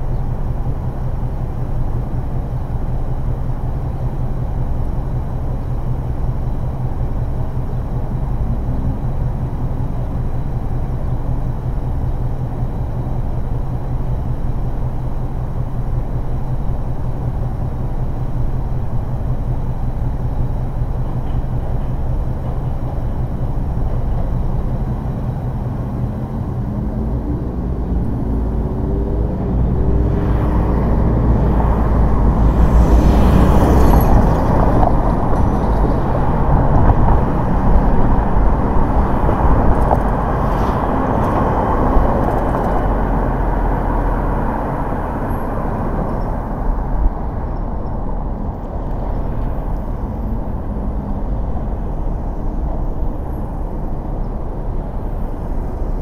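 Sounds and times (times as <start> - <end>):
car tyre and engine road noise: 0.0 - 56.0
engine tone climbing: 0.0 - 56.0
rush of traffic noise: 0.0 - 56.0.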